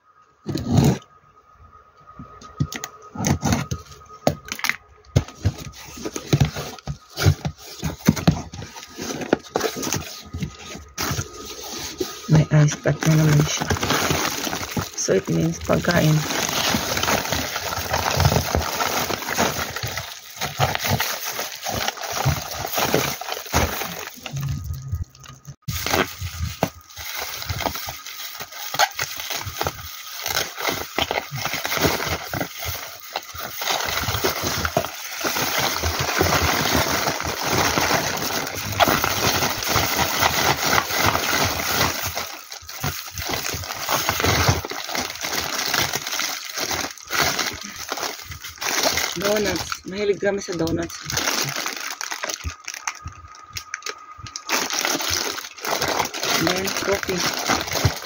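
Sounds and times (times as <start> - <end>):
plastic packaging crinkling: 2.5 - 58.0.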